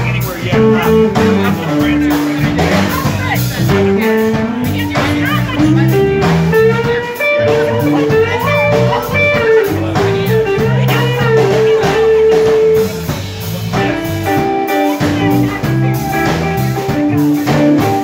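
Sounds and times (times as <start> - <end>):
electric guitar bending notes: 0.0 - 18.0
live blues band: 0.0 - 18.0.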